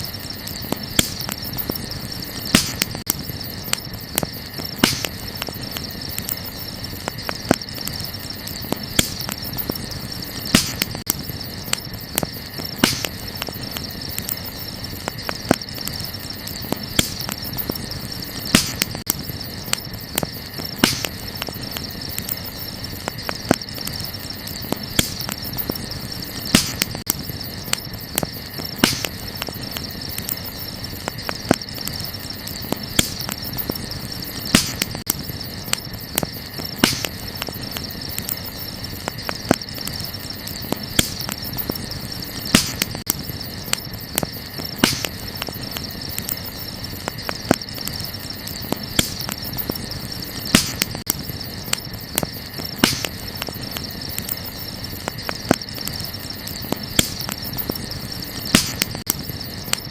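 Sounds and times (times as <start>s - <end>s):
night insects chirring: 0.0s - 59.9s
wood fire crackling and popping: 0.0s - 59.9s.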